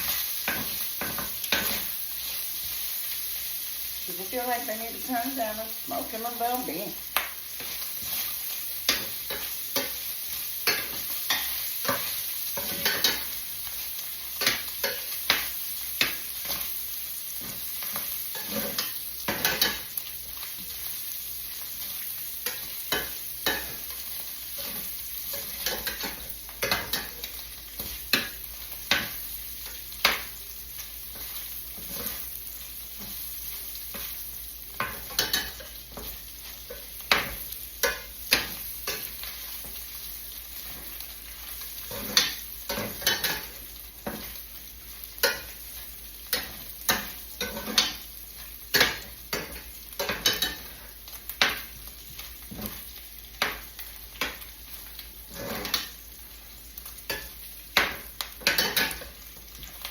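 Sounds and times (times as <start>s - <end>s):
bacon sizzling in a pan: 0.0s - 59.9s.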